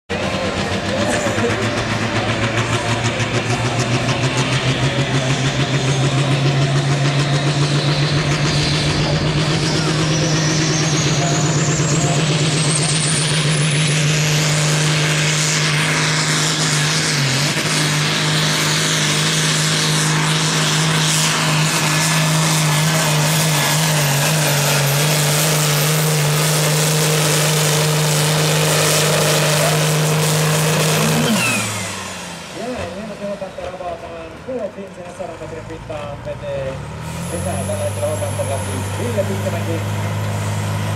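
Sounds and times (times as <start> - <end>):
tractor engine drone with whine: 0.1 - 40.9.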